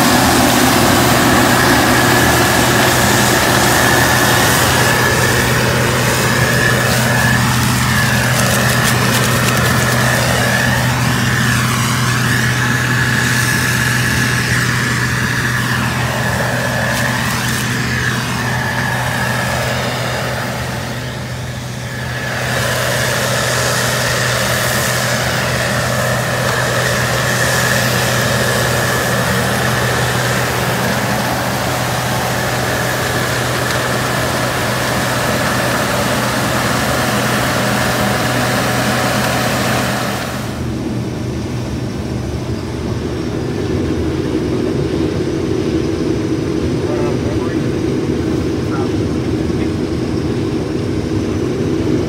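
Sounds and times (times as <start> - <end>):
combine harvester engine hum: 0.0 - 52.0
high machinery whine: 0.0 - 52.0.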